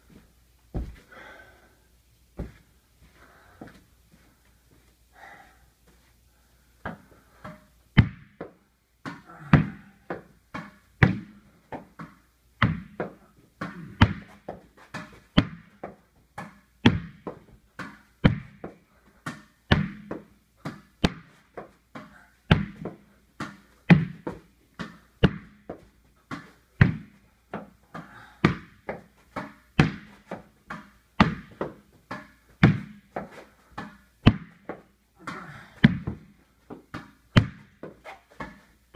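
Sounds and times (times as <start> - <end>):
ball bouncing off walls: 0.7 - 1.0, 2.4 - 2.6, 6.8 - 38.8
tennis ball hit with racket: 6.8 - 38.7.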